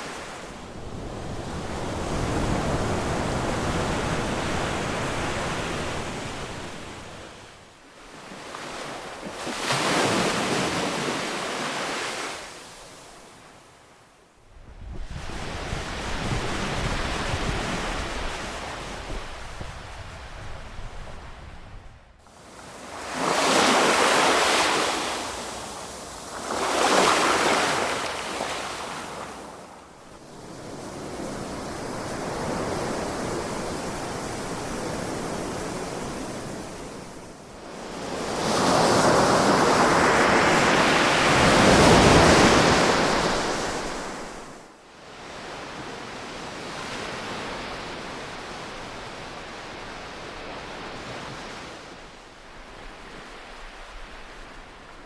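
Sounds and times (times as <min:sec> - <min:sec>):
ocean waves washing onto shore: 0:00.0 - 0:13.6, 0:15.0 - 0:55.0.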